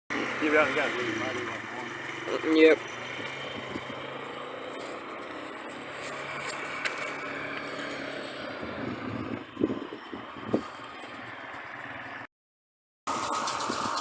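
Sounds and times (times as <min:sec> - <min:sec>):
vehicle engine running: 0:00.1 - 0:12.3, 0:13.1 - 0:14.0.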